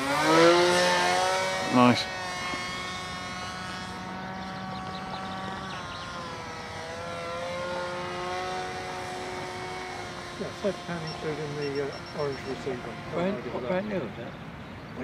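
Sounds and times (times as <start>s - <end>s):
model airplane motor droning: 0.0s - 14.1s.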